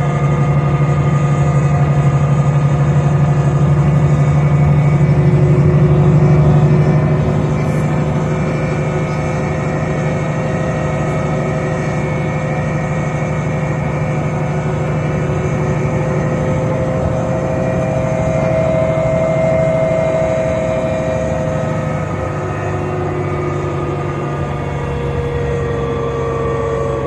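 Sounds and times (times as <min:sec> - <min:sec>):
bus engine humming: 0:00.0 - 0:27.0
gearbox whine: 0:00.0 - 0:27.0.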